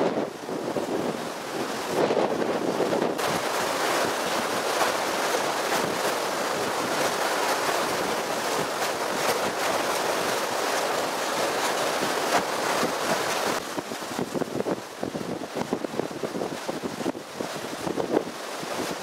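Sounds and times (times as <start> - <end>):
wind blowing over microphone: 0.0 - 11.3, 11.9 - 19.0
waves splashing: 0.0 - 19.0.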